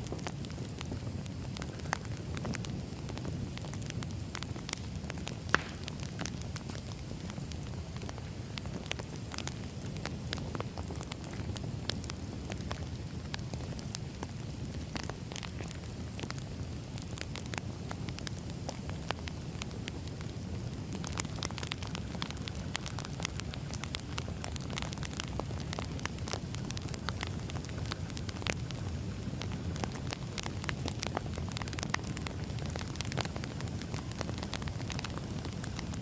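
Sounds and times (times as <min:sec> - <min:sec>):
fire pops and snaps: 0:00.0 - 0:36.0
wood fire crackling: 0:00.0 - 0:36.0.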